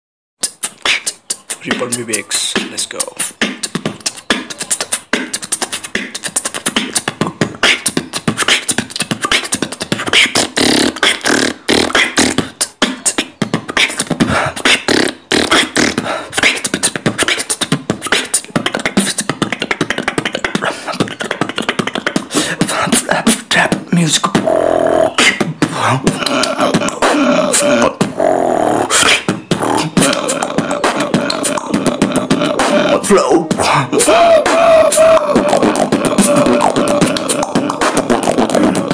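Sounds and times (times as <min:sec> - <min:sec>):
human beatboxing: 0:00.4 - 0:38.9.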